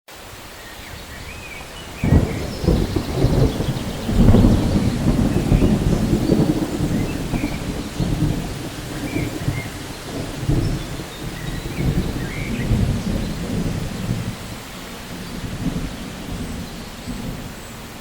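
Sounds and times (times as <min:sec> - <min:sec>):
rain hiss: 0:00.1 - 0:18.0
thunder clap and rumble: 0:01.8 - 0:18.0.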